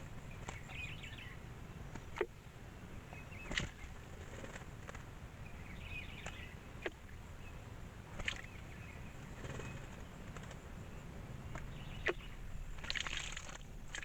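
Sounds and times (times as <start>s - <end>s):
small birds twittering: 0.0s - 13.9s
low wind rumble: 0.0s - 14.0s.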